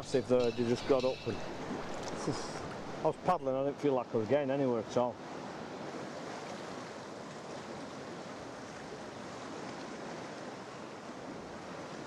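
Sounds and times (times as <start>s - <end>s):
choppy sea lapping kayak: 0.0s - 12.0s.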